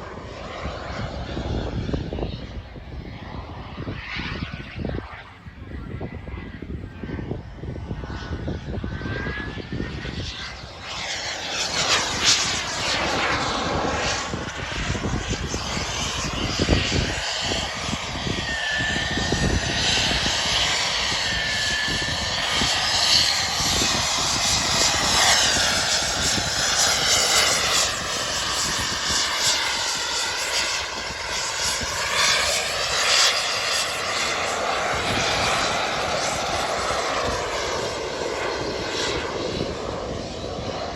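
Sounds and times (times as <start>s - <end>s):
model jet turbine whining: 0.0s - 40.9s.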